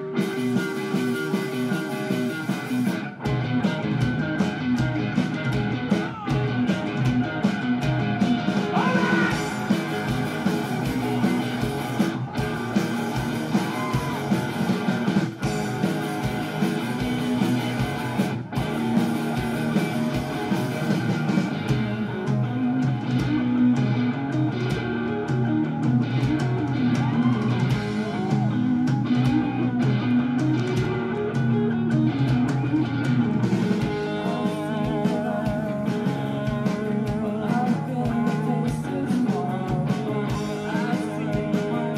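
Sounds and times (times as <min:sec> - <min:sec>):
drum kit: 0:00.0 - 0:41.9
electric guitars: 0:00.0 - 0:41.9.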